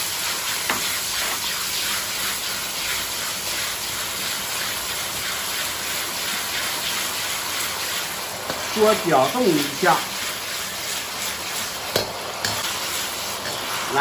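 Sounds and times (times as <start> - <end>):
sauce sizzling in a wok: 0.0 - 14.0.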